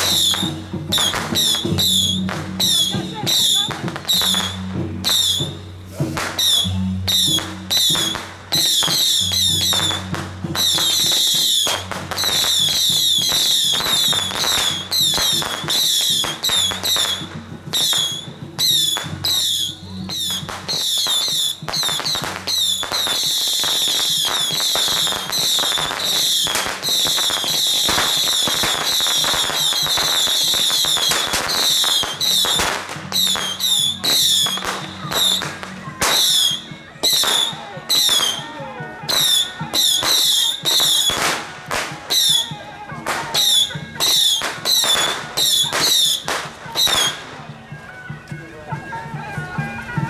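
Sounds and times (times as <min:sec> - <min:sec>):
firecrackers crackling: 0:00.0 - 0:50.0.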